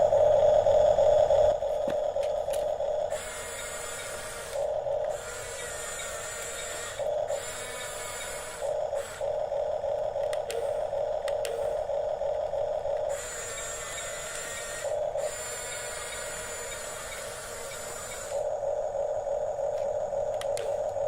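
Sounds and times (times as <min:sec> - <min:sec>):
toy electric motors whirring: 0:00.0 - 0:21.0.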